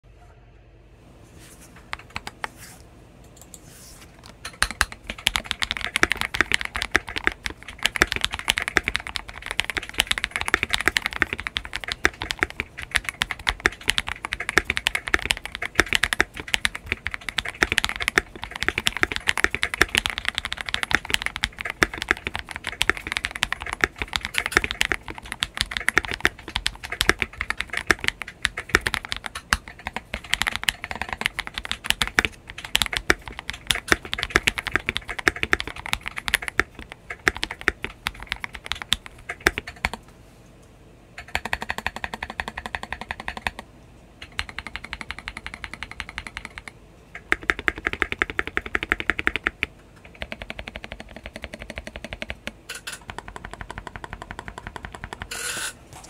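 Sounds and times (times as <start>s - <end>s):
fast mechanical keyboard typing: 1.9s - 2.4s, 4.4s - 40.0s, 41.2s - 55.7s.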